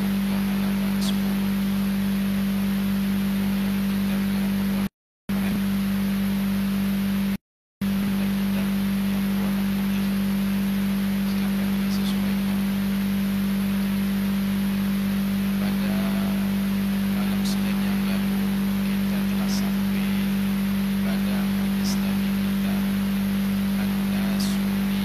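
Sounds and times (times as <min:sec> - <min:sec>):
loud low hum: 0:00.0 - 0:25.0.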